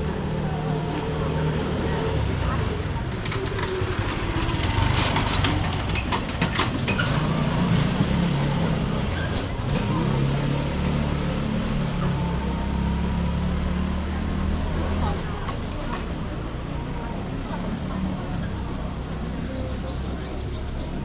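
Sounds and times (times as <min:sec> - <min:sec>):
street noise: 0:00.0 - 0:21.0
vehicle engine running: 0:00.0 - 0:21.0.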